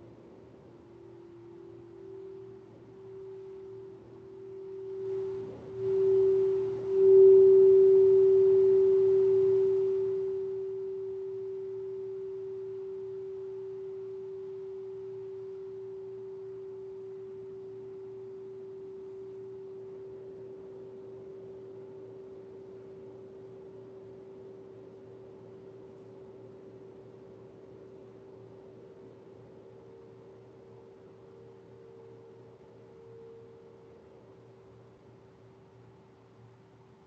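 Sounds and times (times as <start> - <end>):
singing bowl ringing tone: 0.0 - 35.2.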